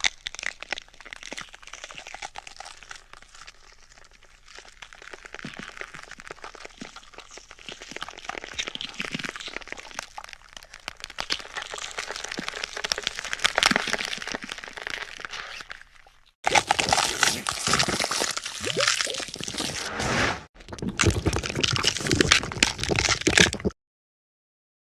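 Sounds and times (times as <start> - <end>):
bones cracking and crunching: 0.0 - 19.9, 20.6 - 23.8.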